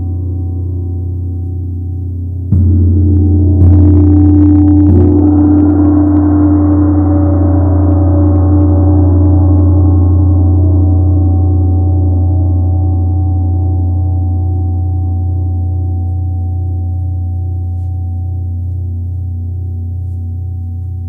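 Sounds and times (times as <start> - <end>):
large gong ringing: 0.0 - 21.0.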